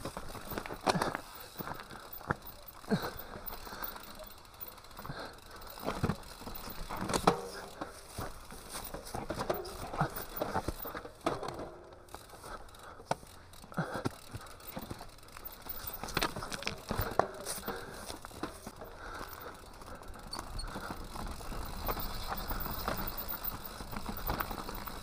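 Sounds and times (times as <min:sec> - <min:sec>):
bike rattling: 0:00.0 - 0:25.0
tyres crunching over stones: 0:00.0 - 0:25.0.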